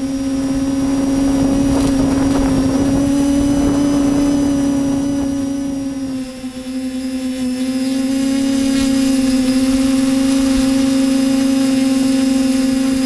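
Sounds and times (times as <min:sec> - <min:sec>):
steady machine drone: 0:00.0 - 0:13.0.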